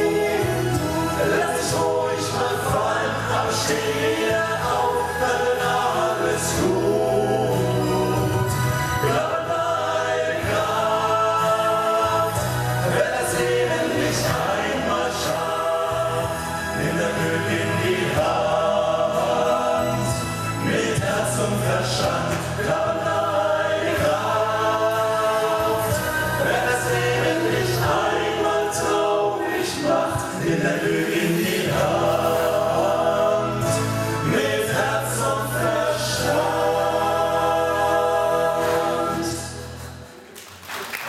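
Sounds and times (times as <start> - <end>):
male vocal group singing harmony: 0.0 - 40.1.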